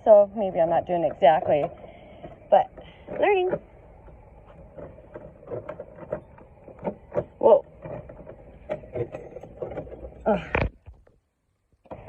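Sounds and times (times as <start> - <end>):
faint steady hum: 0.0 - 12.0
knocks and clicks: 0.4 - 11.2.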